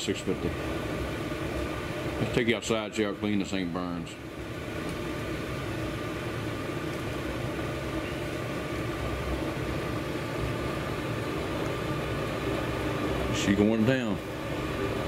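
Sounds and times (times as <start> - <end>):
air blower running: 0.0 - 15.0
stove burning with rushing hum: 0.0 - 15.0.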